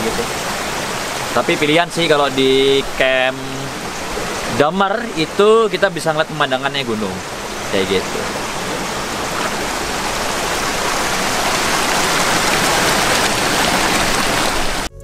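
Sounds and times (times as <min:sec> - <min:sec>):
river water rushing over rocks: 0:00.0 - 0:14.9.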